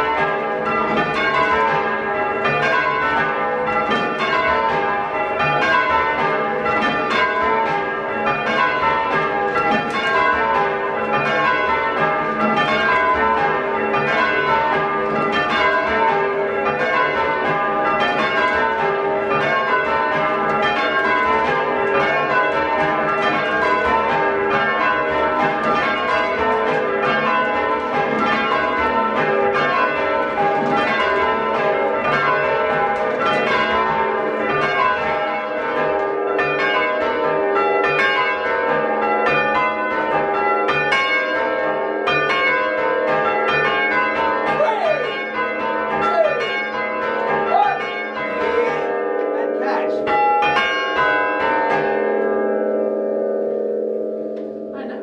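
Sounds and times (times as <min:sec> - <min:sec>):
church bells ringing changes: 0:00.0 - 0:55.0.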